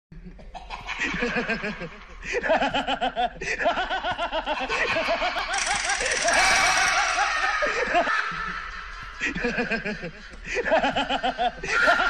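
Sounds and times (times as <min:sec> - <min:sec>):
person laughing: 0:00.3 - 0:12.0.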